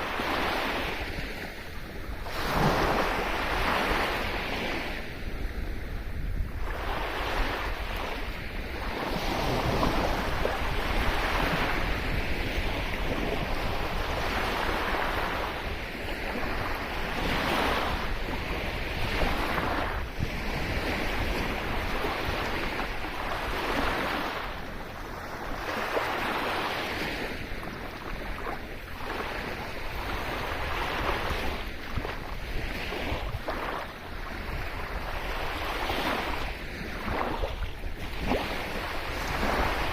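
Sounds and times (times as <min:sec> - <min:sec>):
sea waves washing onto shore: 0:00.0 - 0:39.9
wind on microphone: 0:00.0 - 0:39.9.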